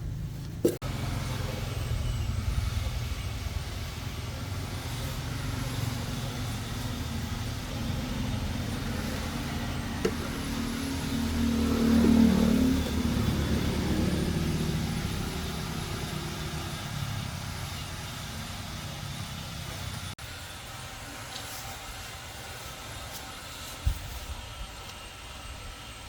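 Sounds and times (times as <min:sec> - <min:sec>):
truck engine running: 0:00.0 - 0:21.5.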